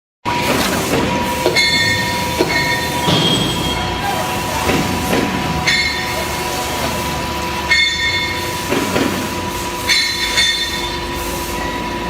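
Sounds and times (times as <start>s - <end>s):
machine running: 0.3s - 12.0s
high metallic squeals: 0.8s - 11.9s.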